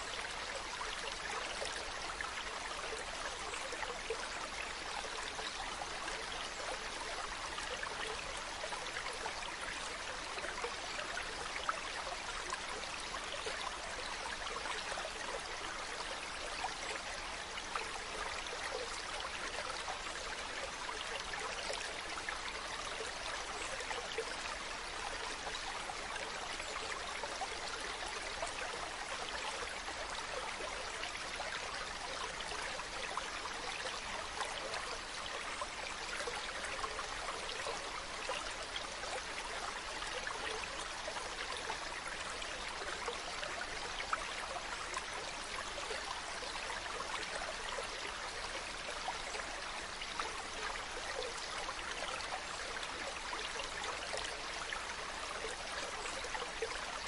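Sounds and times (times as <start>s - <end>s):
water splashes and trickles: 0.0s - 57.0s.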